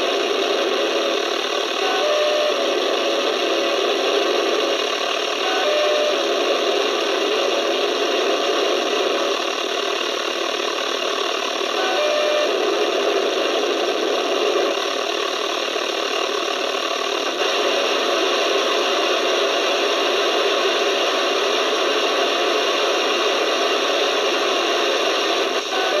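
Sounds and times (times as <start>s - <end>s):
buzzing radio static with tones: 0.0s - 26.0s.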